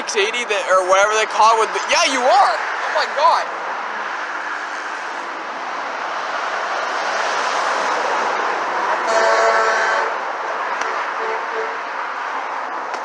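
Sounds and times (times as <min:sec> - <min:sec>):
trucks rushing by: 0:00.0 - 0:13.0.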